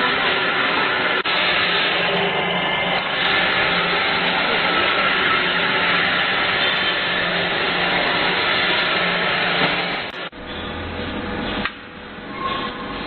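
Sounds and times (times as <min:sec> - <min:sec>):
rushing machine noise: 0:00.0 - 0:13.0.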